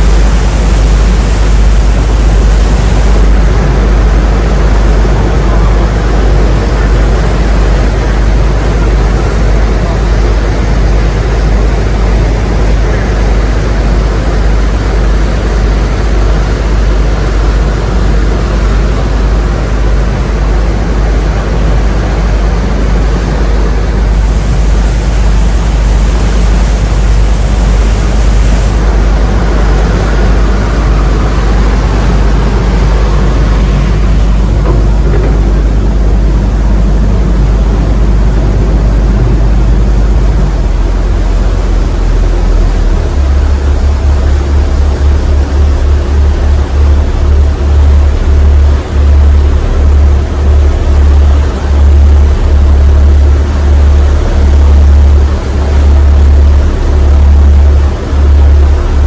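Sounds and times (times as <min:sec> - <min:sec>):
ferry diesel engine drone: 0:00.0 - 0:59.0
rushing wind and water: 0:00.0 - 0:59.0.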